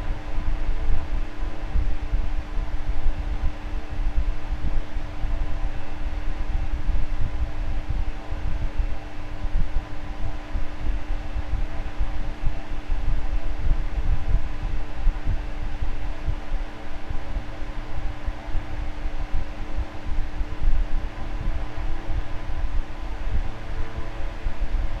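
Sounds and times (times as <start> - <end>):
electric fan hum: 0.0 - 25.0.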